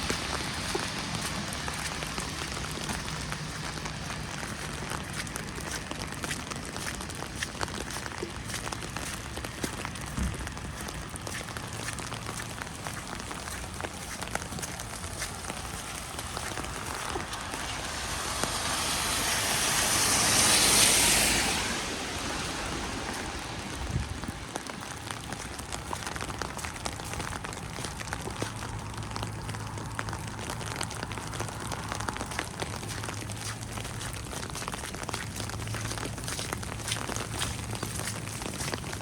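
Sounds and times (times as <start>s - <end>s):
vehicle tyres hissing on wet road: 0.0s - 39.0s
wet snow and rain pattering: 0.0s - 39.0s.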